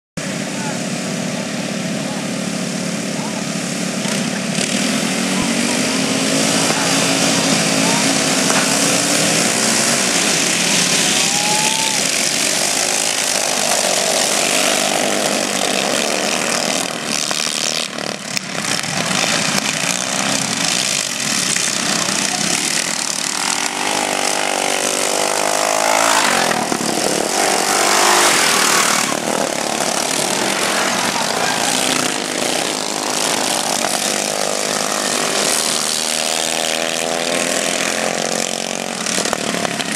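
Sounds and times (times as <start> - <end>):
lawn mower engines racing: 0.2 - 39.9.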